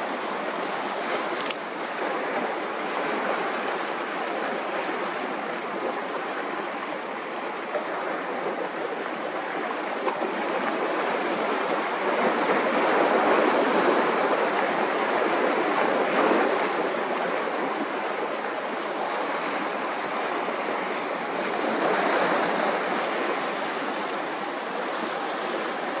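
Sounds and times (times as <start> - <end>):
waves washing on shore: 0.0 - 26.0.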